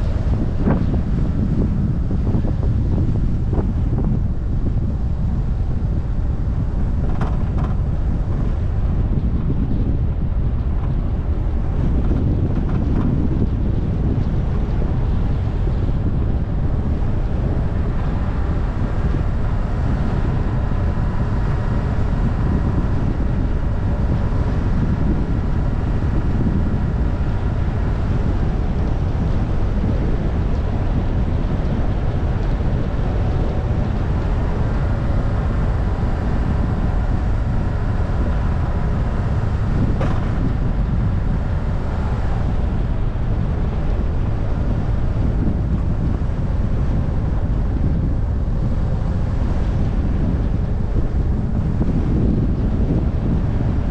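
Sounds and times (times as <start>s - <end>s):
car engine faintly whining: 0.0s - 53.9s
wind buffeting microphone: 0.0s - 53.9s.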